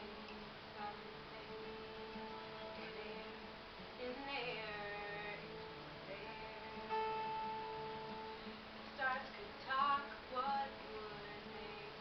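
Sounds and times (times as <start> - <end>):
woman singing: 0.0 - 7.4, 8.9 - 12.0
acoustic guitar strumming: 0.0 - 12.0.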